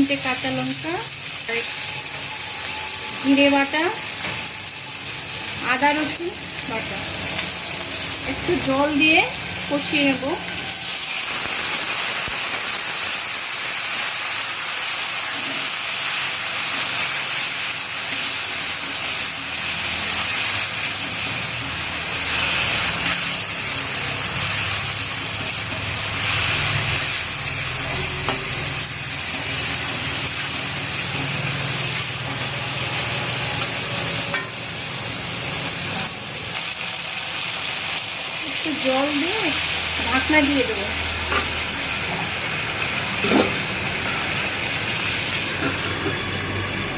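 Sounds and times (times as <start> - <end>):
vegetables sizzling in hot oil: 0.0 - 46.9.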